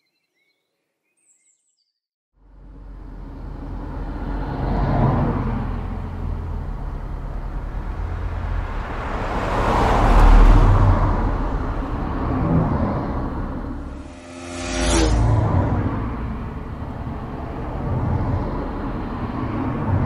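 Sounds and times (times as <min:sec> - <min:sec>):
vehicles passing with engine rumble: 0:02.4 - 0:20.0.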